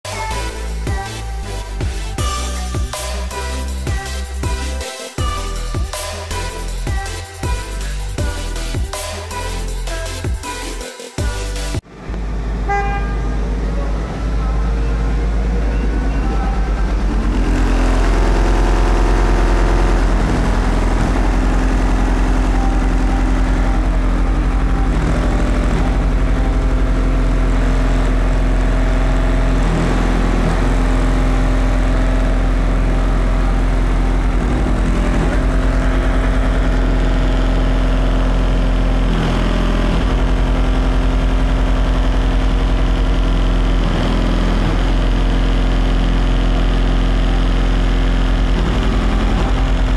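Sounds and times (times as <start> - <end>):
subwoofer playing deep bass: 0.0 - 49.9.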